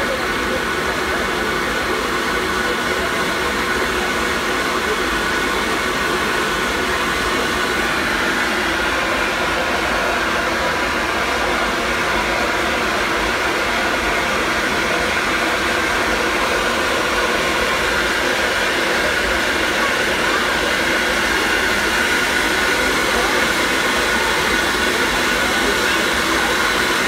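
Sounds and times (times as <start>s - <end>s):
steam locomotive venting steam: 0.0s - 27.0s.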